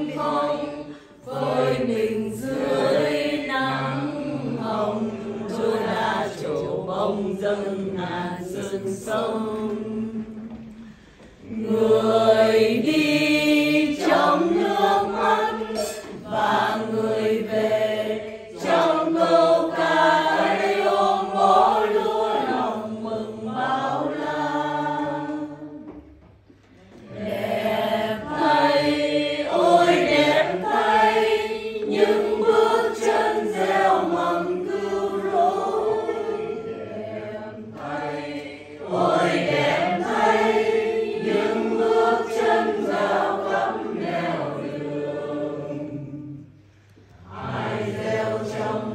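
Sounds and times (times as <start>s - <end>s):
congregation singing a hymn: 0.0s - 48.9s.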